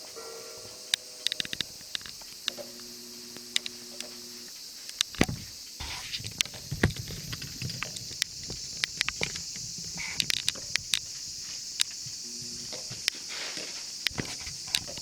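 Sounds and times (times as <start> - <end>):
steady high hiss: 0.0 - 15.0
scattered sharp clicks: 0.7 - 13.2.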